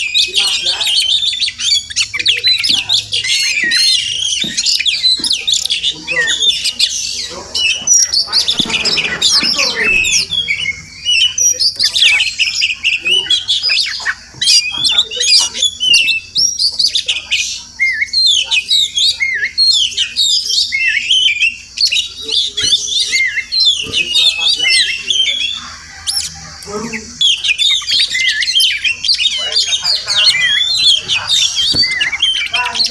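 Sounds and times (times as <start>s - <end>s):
bird singing whistled notes: 0.0s - 32.9s.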